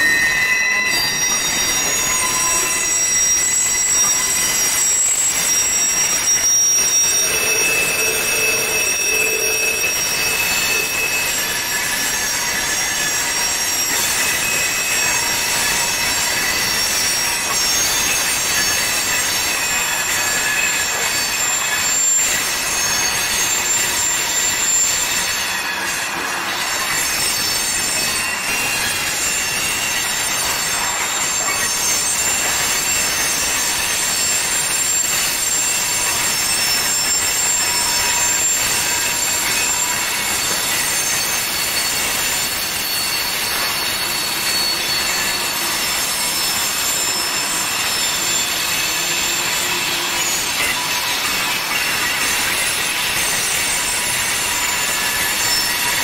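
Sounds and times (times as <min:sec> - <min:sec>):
rolling train wheels: 0:00.0 - 0:56.0
wheel flanges squealing: 0:00.0 - 0:56.0.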